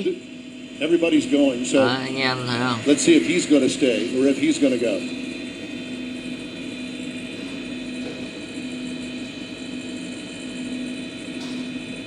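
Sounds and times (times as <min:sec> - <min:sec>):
helicopter turbine and rotor drone: 0:00.0 - 0:12.0.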